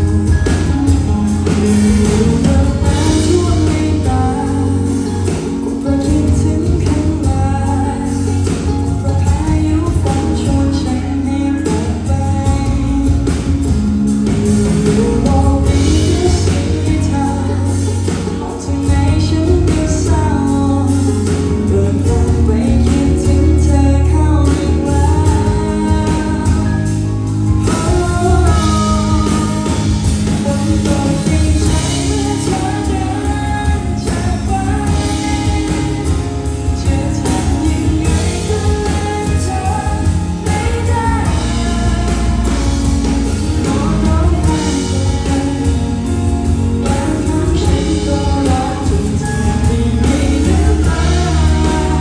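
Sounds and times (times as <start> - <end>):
electric guitar: 0.0 - 52.0
keyboard: 0.0 - 52.0
woman singing into a microphone: 1.8 - 52.0.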